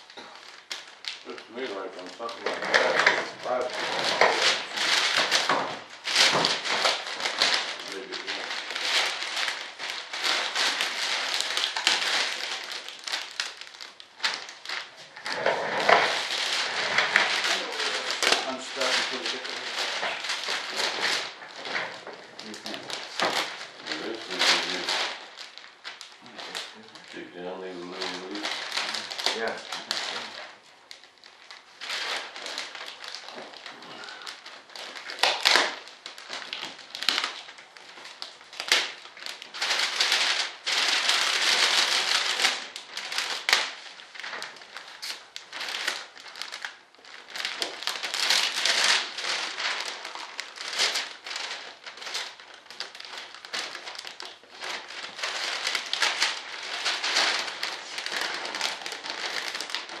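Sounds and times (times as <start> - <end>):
plastic film crinkling: 0.0 - 60.0.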